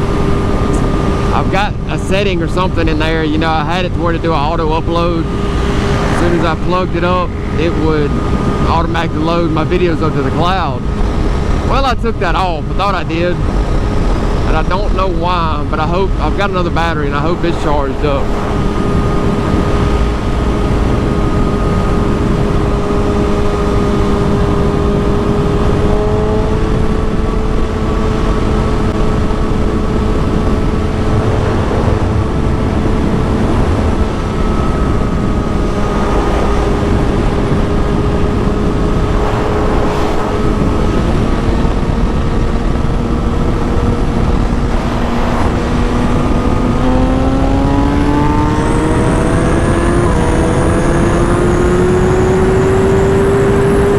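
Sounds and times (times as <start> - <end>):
rushing noise: 0.0 - 25.8, 28.6 - 53.0
motorcycle engine revving: 0.0 - 53.9.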